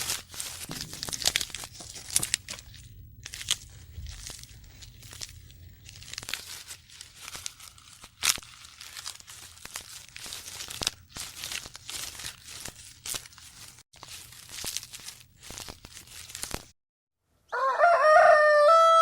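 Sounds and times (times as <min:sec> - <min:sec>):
crackling and crunching: 0:00.0 - 0:16.8.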